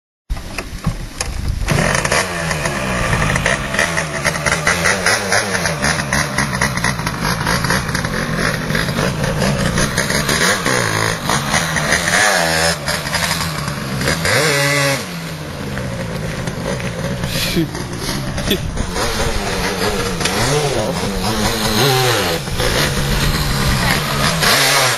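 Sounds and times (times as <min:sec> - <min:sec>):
moped engine revving: 0:01.6 - 0:24.9.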